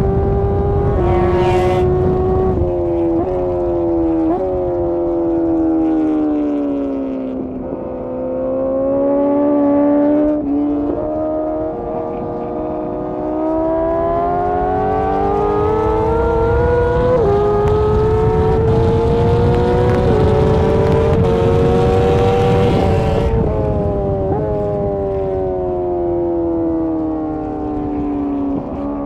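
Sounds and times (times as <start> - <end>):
engine blipping on downshifts: 0.0 - 29.0
motorcycle engine accelerating: 0.0 - 29.0.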